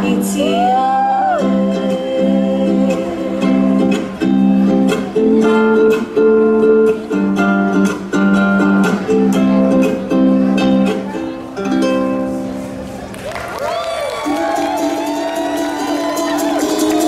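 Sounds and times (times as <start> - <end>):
ukulele and guitar strumming: 0.0 - 13.2, 14.2 - 17.0.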